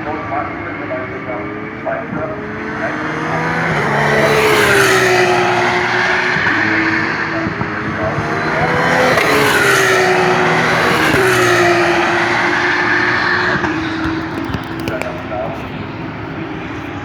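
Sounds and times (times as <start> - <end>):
race cars passing: 0.0 - 17.0.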